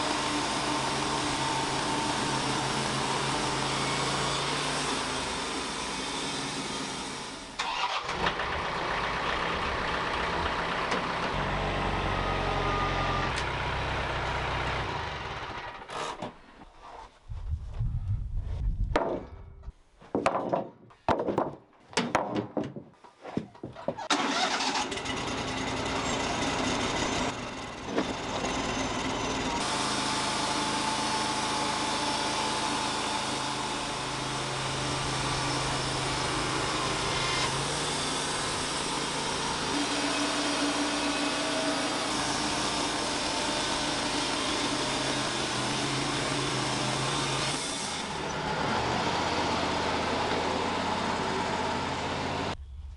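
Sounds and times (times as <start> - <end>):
band sawmill running: 0.0 - 16.4, 23.9 - 52.6.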